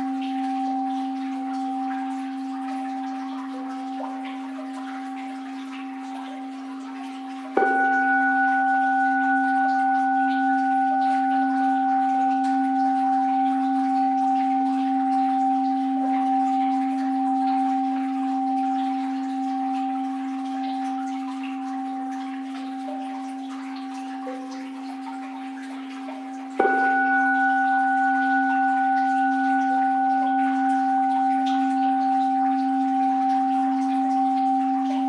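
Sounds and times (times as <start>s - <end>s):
bowl bell ringing: 0.0s - 35.0s.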